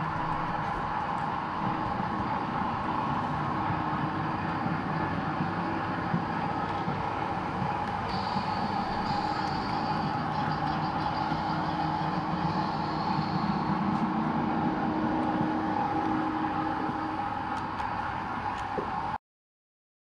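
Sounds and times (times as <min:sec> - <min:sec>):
model train running: 0:00.0 - 0:18.8
constant hum: 0:00.0 - 0:19.2.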